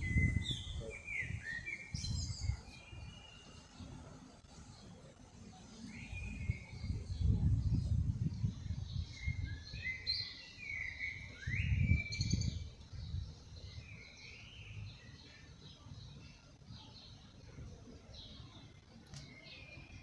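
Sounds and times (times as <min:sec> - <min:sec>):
songbirds chirping and singing: 0:00.0 - 0:20.0.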